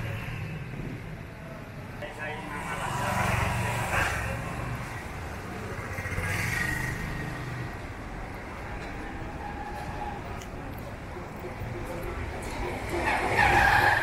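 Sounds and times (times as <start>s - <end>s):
vehicle engines passing: 0.0s - 14.0s.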